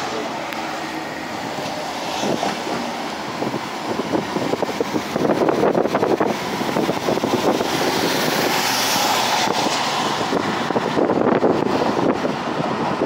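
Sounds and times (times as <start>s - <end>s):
car road and wind noise: 0.0s - 13.0s
rough rumbling and clatter: 0.0s - 13.0s.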